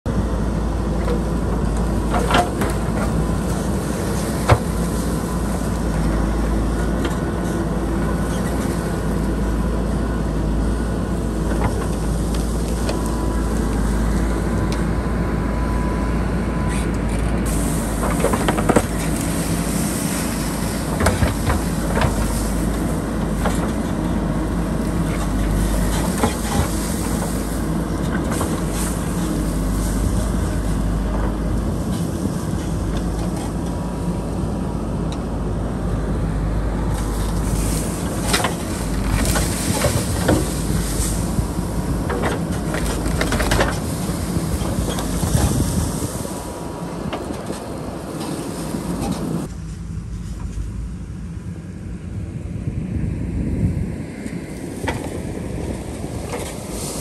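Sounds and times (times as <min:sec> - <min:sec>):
backhoe diesel engine running: 0:00.0 - 0:57.0.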